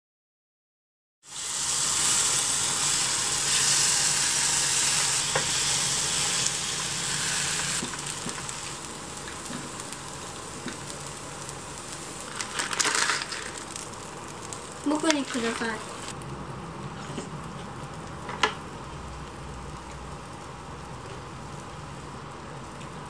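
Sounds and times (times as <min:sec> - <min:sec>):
batter sizzling in a pan: 0:01.2 - 0:23.0.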